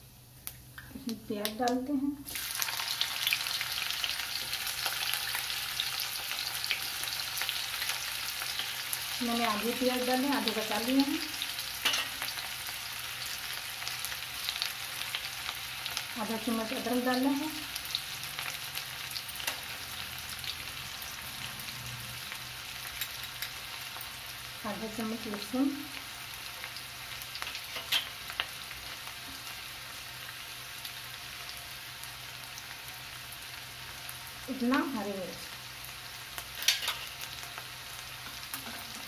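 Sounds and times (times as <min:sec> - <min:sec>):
onions sizzling in hot oil: 0:00.0 - 0:39.0.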